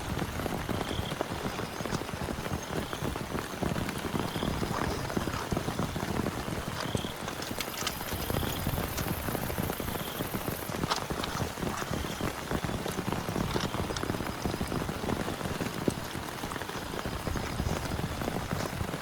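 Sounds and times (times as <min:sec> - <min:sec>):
heavy rain on a tent: 0:00.0 - 0:19.0
sharp raindrop hits: 0:00.0 - 0:19.0.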